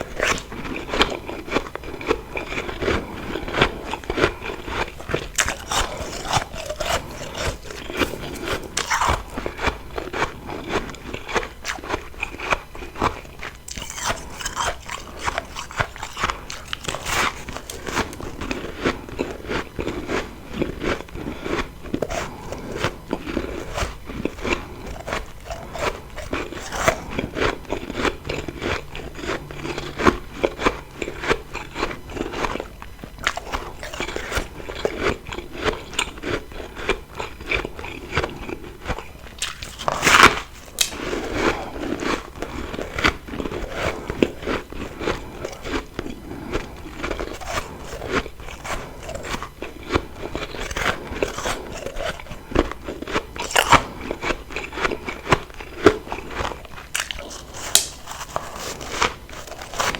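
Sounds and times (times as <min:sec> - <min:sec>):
chewing crunchy ice: 0:00.0 - 0:59.9.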